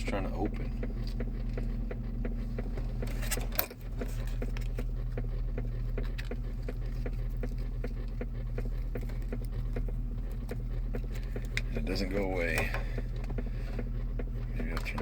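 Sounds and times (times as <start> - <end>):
rapid knocking in car console: 0.0 - 15.0
truck engine drone: 0.0 - 15.0.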